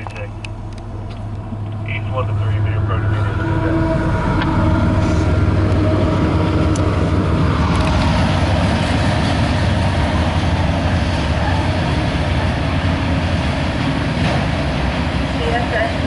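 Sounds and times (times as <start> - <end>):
faint locomotive engine tone: 0.0 - 16.0
freight train rumbling past: 0.0 - 16.0
wheel and rail noise: 0.0 - 16.0.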